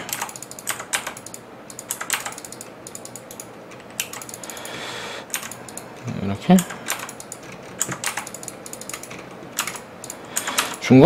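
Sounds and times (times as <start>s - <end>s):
keyboard keys clicking: 0.0s - 4.7s, 5.3s - 10.8s
rapid mouse wheel clicks: 0.0s - 4.7s, 5.3s - 10.8s.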